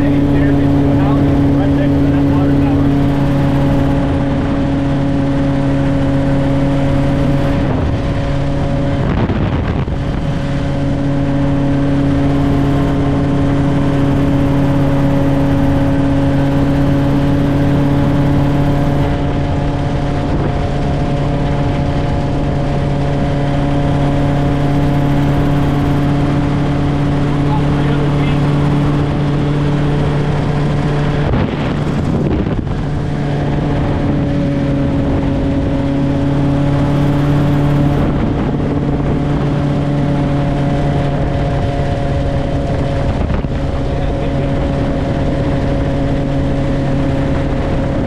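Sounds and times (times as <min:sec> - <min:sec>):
helicopter engine and rotor drone: 0:00.0 - 0:48.0.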